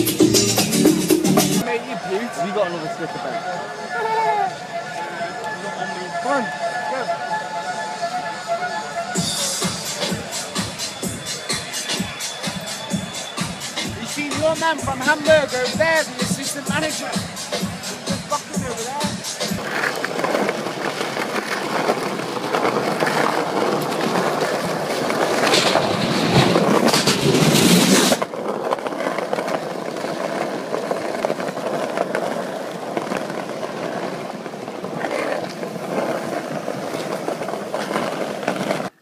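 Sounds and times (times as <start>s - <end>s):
skateboard wheels rolling on pavement: 0.0s - 39.0s.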